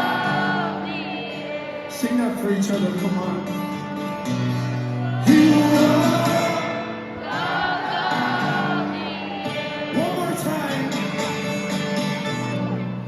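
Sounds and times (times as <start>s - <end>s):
crowd singing together: 0.0s - 2.7s, 4.3s - 13.0s
band playing: 0.0s - 13.0s.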